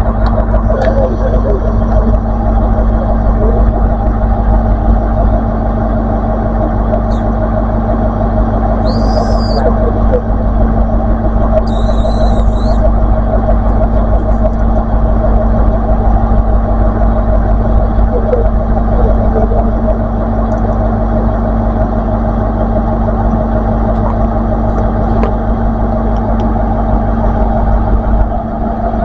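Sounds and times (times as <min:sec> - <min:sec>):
diesel train engine idling: 0:00.0 - 0:29.0.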